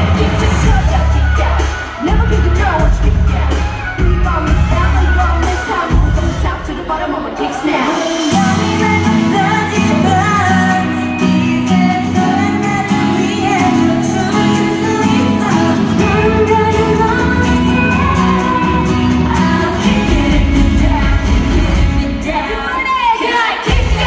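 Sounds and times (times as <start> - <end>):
amplified pop backing track: 0.0 - 24.0
woman singing live: 0.0 - 24.0.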